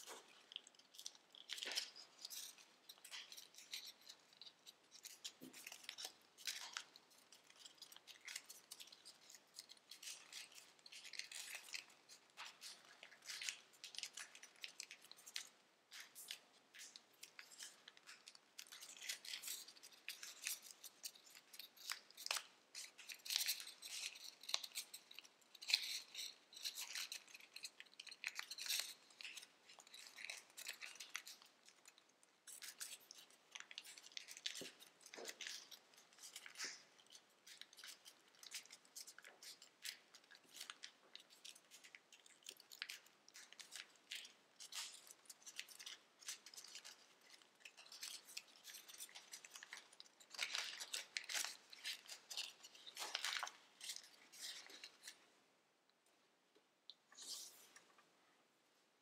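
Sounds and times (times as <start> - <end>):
foil paper crinkling: 0.0 - 55.2.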